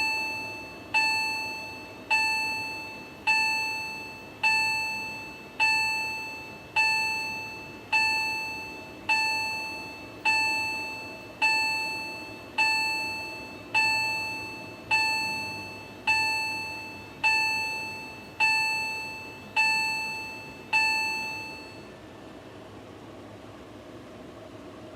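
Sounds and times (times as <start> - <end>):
fire alarm bell chime: 0.0 - 21.9.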